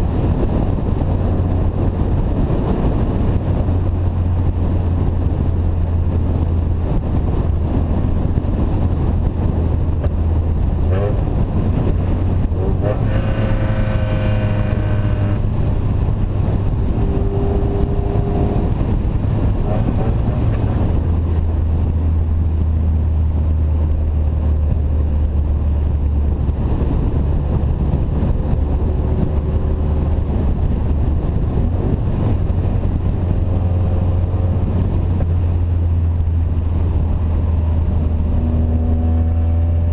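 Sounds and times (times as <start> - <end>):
unsilenced engine exhaust drone: 0.0 - 39.9
wind noise on microphone: 0.0 - 39.9.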